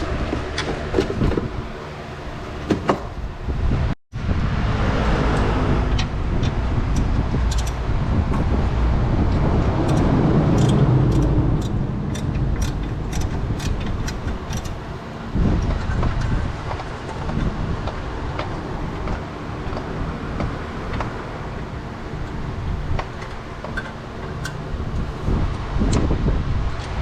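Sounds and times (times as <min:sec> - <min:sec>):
low vehicle rumble: 0:00.0 - 0:27.0.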